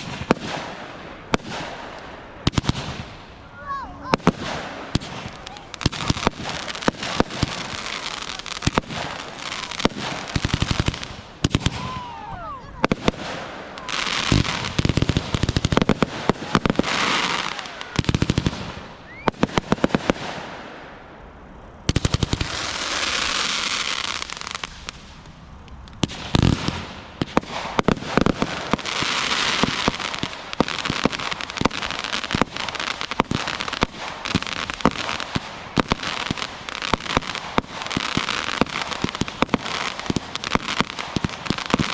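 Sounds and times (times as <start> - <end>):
hissing sparkling crackle: 0.0 - 12.0, 12.7 - 41.9
firework whistles: 0.0 - 20.9, 21.8 - 41.9
fireworks crackling and banging: 0.0 - 41.9.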